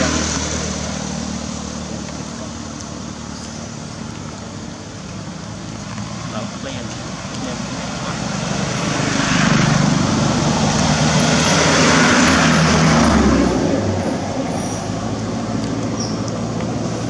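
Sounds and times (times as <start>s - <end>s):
traffic hum: 0.0s - 17.0s
vehicle engine passing close: 0.0s - 17.0s.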